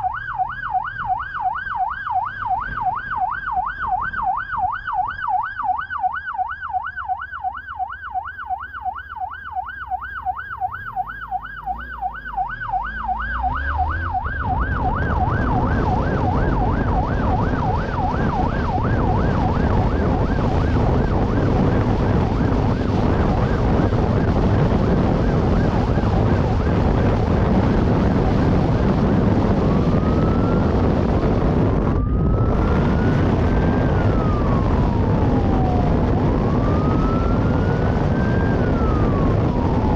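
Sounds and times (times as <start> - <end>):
police siren yelp: 0.0 - 39.9
siren wailing: 0.0 - 39.9
wind and road noise: 0.0 - 39.9.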